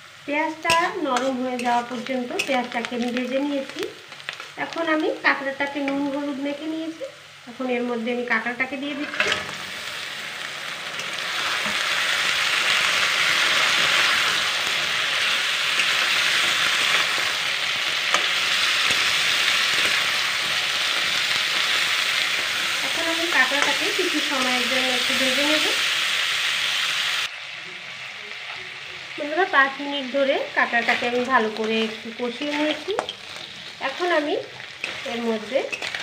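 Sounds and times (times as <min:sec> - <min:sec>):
crab frying in hot oil: 0:00.0 - 0:36.0.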